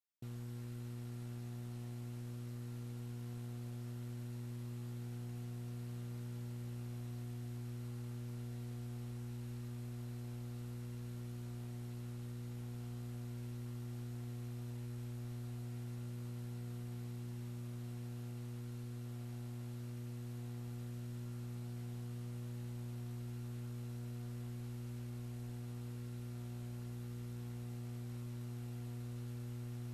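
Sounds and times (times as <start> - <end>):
electrical mains hum: 0.2 - 29.9.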